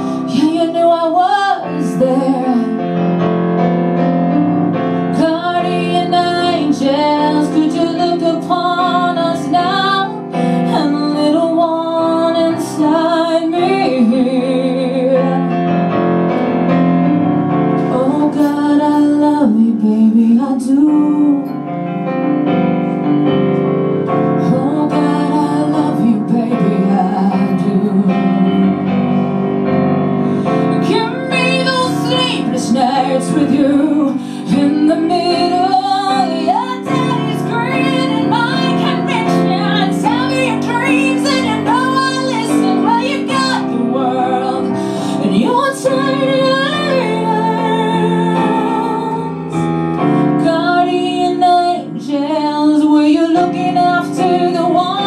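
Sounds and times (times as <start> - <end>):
woman singing: 0.0 - 3.0, 5.0 - 15.6, 17.8 - 21.6, 24.3 - 29.0, 30.4 - 55.0
piano chords: 0.0 - 55.0.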